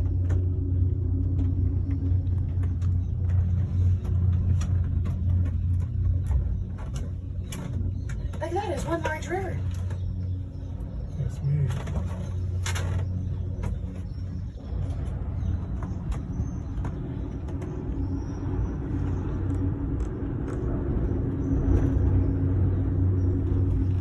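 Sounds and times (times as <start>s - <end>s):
cable car rumble and hum: 0.0s - 24.0s.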